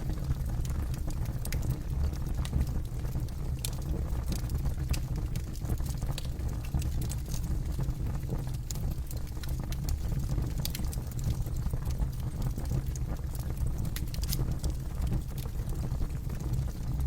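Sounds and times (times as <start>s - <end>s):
burning wood crackling and popping: 0.0s - 17.0s
campfire rumbling: 0.0s - 17.0s.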